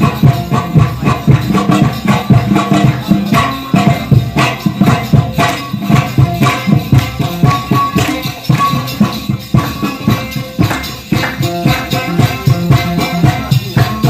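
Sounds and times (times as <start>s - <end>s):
lute strummed fast: 0.0s - 14.0s.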